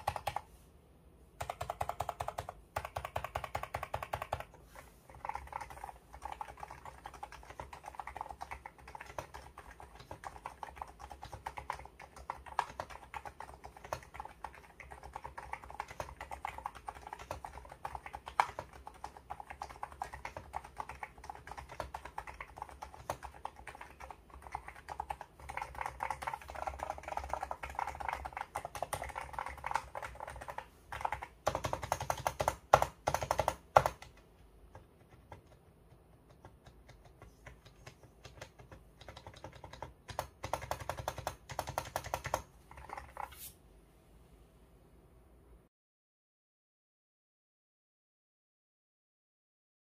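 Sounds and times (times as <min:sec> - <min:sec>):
keyboard typing: 0:00.0 - 0:00.5, 0:01.4 - 0:43.5.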